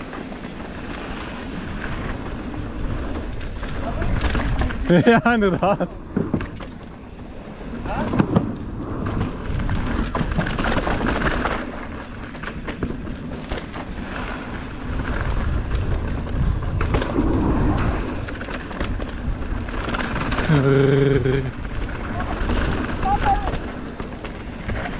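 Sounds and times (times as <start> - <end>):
bike clicks and knocks: 0.0 - 24.9
mountain bike rolling rush: 0.0 - 24.9.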